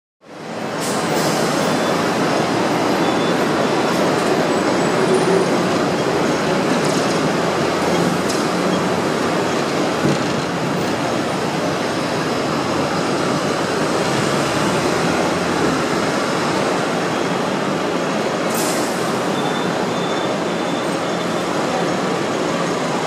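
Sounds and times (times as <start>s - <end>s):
steel wheels rumbling on rails: 1.0s - 23.0s.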